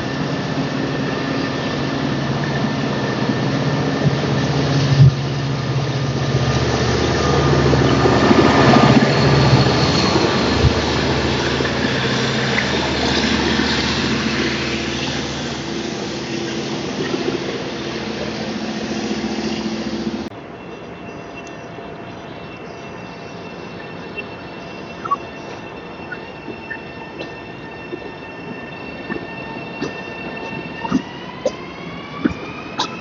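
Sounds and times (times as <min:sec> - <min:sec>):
steady hum: 0:00.0 - 0:33.0
train running past: 0:00.0 - 0:33.0.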